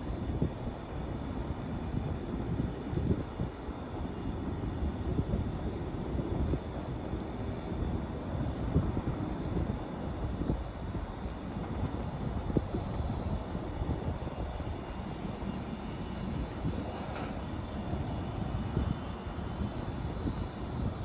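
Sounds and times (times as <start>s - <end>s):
faint steady high whine: 0.0s - 21.0s
wind on microphone: 0.0s - 21.0s.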